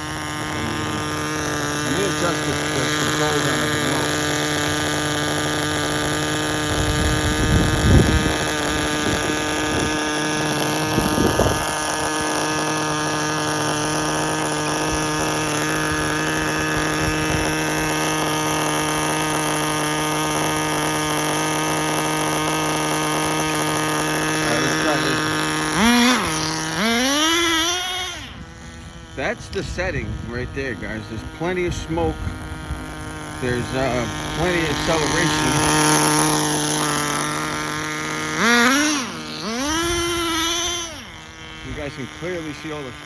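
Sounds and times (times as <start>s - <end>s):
small engine idling: 0.0s - 43.0s.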